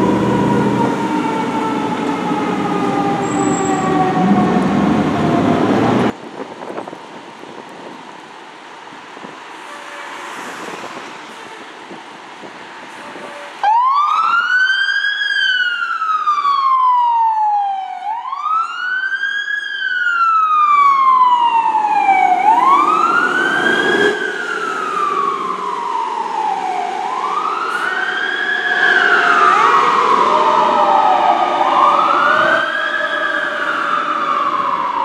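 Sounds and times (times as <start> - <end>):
fire truck siren wailing: 0.0 - 6.2, 13.0 - 35.0.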